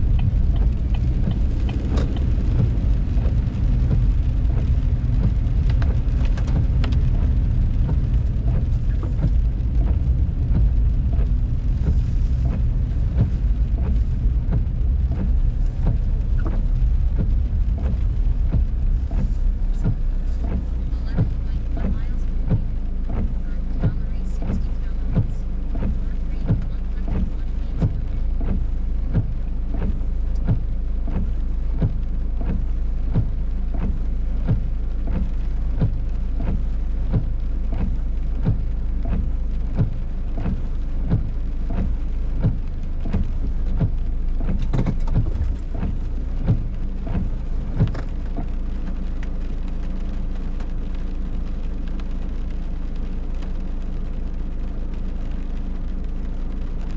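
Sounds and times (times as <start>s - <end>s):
heavy rain on car roof: 0.0s - 56.9s.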